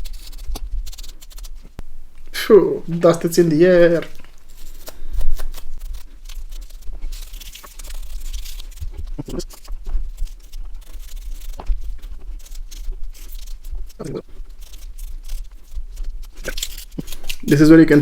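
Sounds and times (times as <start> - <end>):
scratchy rustling of dusting: 0.0 - 18.0.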